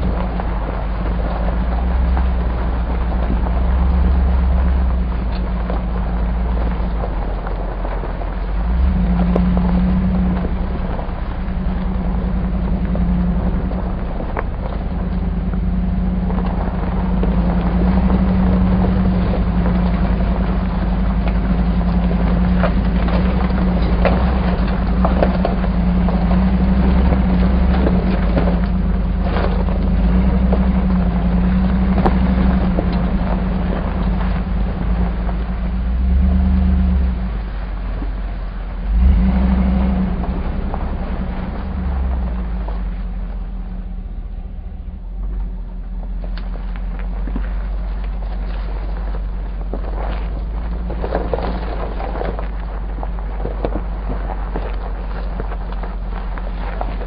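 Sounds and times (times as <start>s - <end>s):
car engine running at low speed: 0.0s - 57.0s
rattles and knocks on bumpy road: 0.0s - 57.0s.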